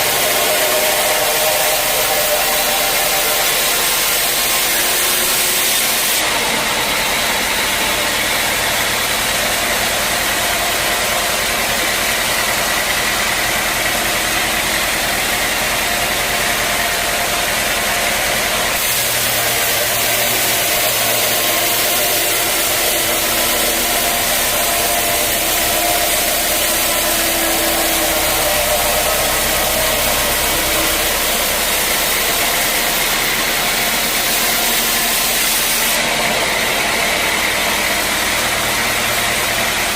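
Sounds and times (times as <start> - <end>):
motor hum: 0.0 - 39.9
saw hissing: 0.0 - 39.9.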